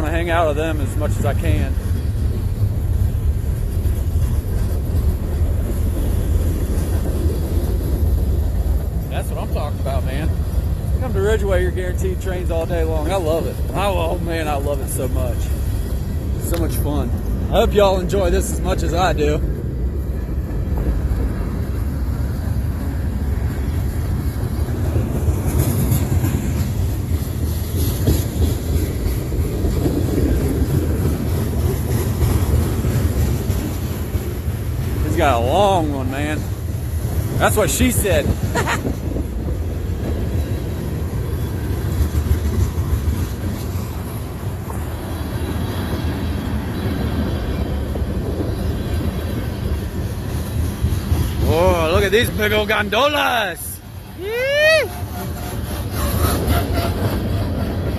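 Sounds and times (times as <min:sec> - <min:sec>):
wheel clatter on rails: 0:00.0 - 0:54.0, 0:54.8 - 0:57.9
freight train rumbling past: 0:00.0 - 0:57.9.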